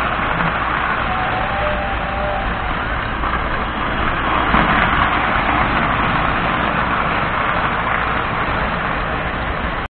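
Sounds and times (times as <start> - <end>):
steady low hum: 0.0 - 9.9
toy train wheels rumbling on rails: 0.0 - 9.9.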